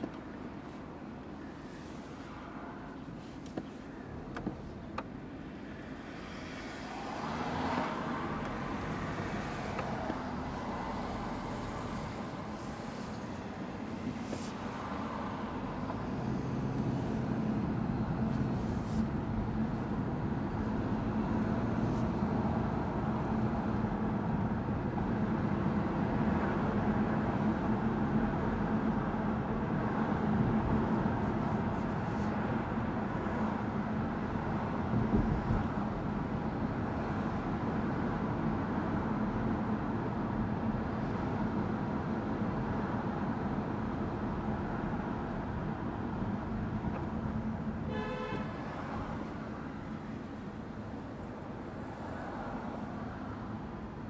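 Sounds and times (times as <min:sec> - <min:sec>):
car tyre and road noise: 0:00.0 - 0:54.0.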